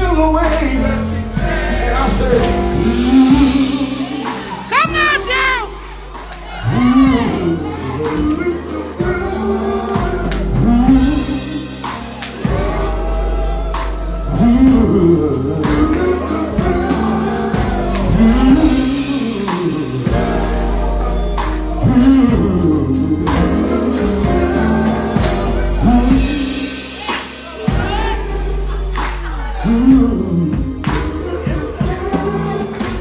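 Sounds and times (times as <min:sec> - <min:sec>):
gospel band playing: 0:00.0 - 0:33.0
wordless singing: 0:00.0 - 0:33.0.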